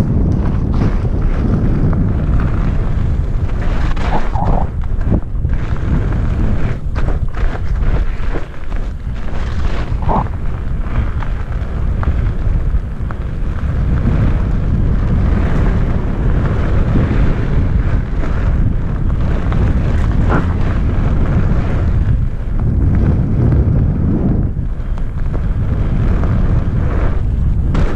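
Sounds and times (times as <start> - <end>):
wheels rolling on gravel: 0.0 - 27.9
wind buffeting microphone: 0.0 - 27.9.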